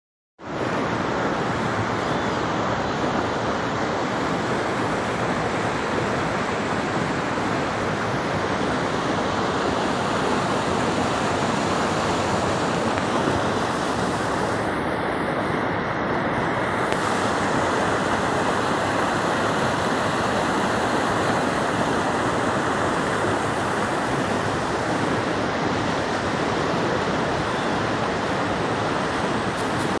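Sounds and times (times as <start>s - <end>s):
water rushing over spillway: 0.4s - 30.0s.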